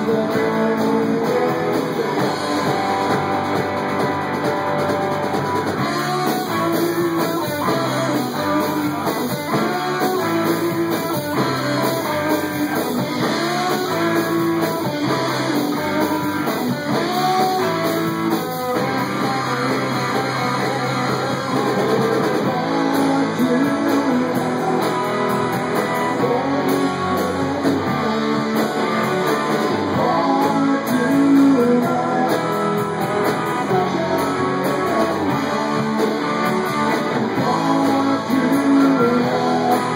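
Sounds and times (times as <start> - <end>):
live band with lead guitar: 0.0 - 39.9.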